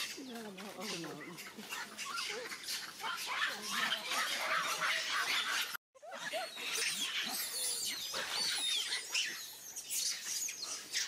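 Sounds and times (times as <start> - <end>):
macaques squealing and chattering: 0.0 - 11.0.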